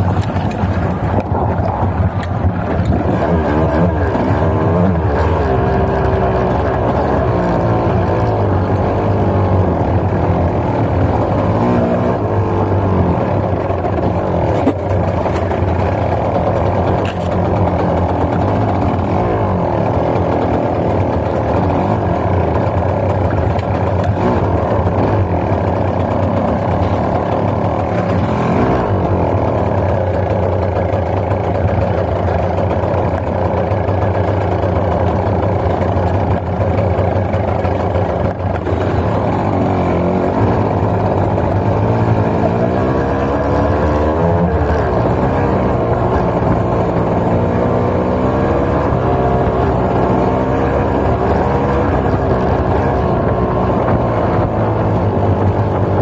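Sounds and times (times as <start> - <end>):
dirt bike engine revving: 0.0 - 55.2
scooter engine: 0.0 - 56.0.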